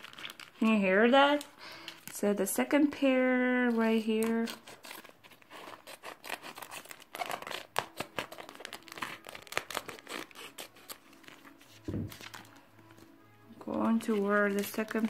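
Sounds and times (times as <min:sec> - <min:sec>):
plastic crinkling: 0:00.0 - 0:03.0, 0:03.6 - 0:15.0.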